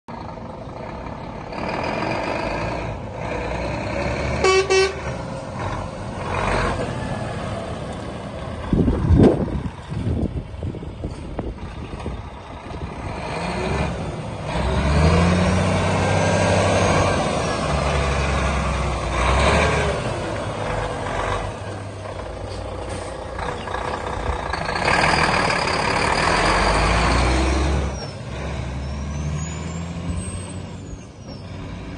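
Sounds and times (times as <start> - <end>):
diesel truck engine: 0.1 - 31.9.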